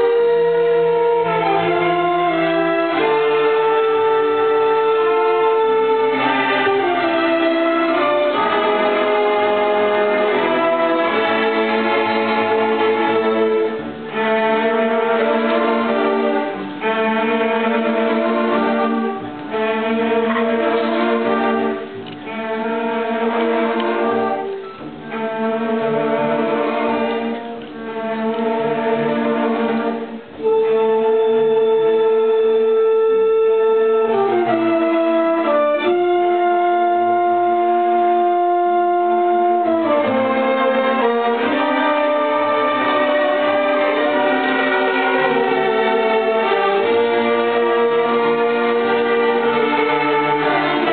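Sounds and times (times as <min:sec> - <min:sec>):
string orchestra playing: 0:00.0 - 0:50.9.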